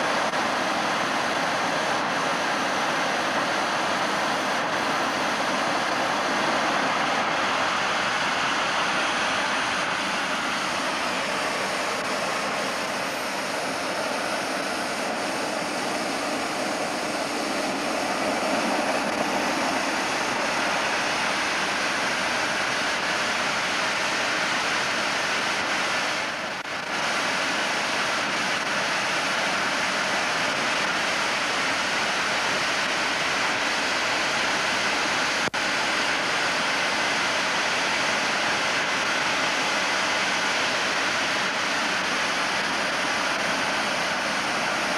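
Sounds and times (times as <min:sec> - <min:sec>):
high whine gliding in pitch: 0:00.0 - 0:36.8
jet turbine roar: 0:00.0 - 0:44.9.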